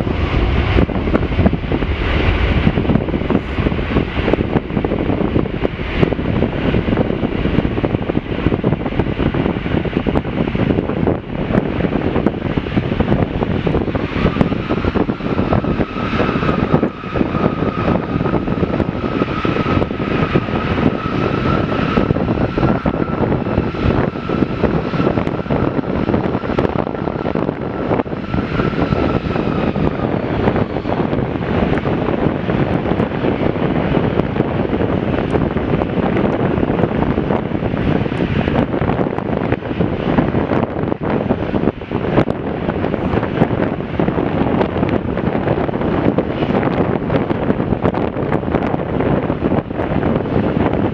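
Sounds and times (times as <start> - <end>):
engine fan whine: 0.0 - 50.9
jet engine noise: 0.0 - 50.9.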